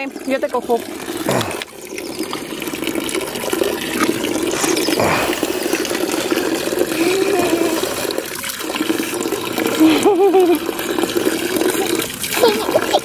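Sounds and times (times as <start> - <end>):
water pouring from metal spout: 0.0 - 13.0.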